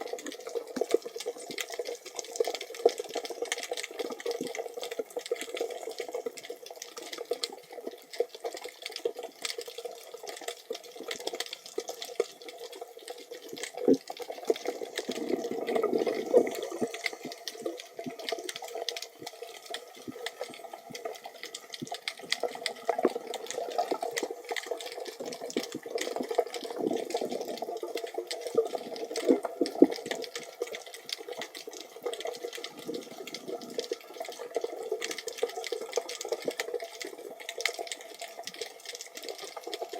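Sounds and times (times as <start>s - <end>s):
small crackling clicks: 0.0s - 39.9s
underwater water wash: 0.0s - 39.9s.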